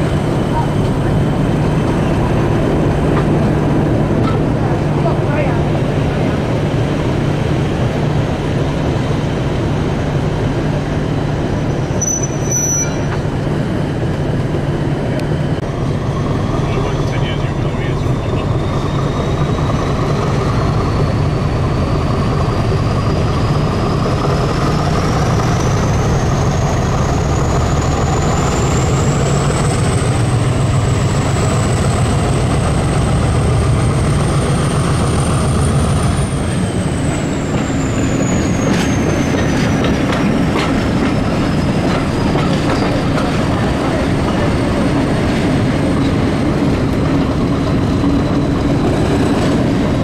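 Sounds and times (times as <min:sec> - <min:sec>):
diesel train engine drone: 0:00.0 - 0:50.0.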